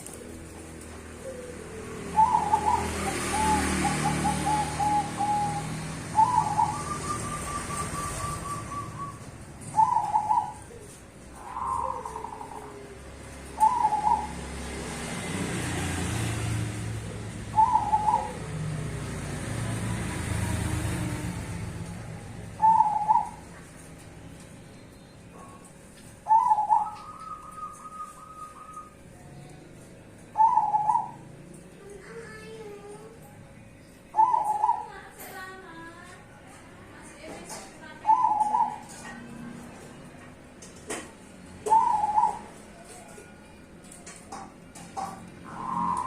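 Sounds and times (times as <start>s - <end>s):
doves cooing: 0.0s - 24.2s, 25.2s - 29.3s, 29.9s - 31.7s, 34.2s - 35.1s, 38.0s - 46.0s.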